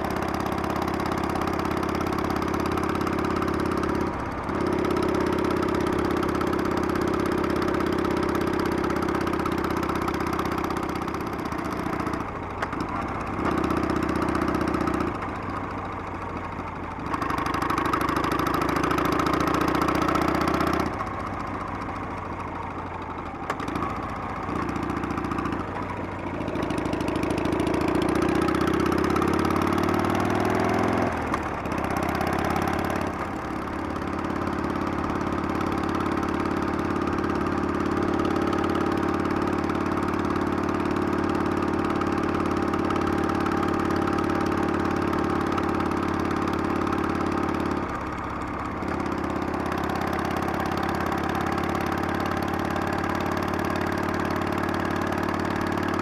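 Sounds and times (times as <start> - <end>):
motorcycle engine revving through gears: 0.0 - 15.9, 17.0 - 22.7, 23.4 - 56.0.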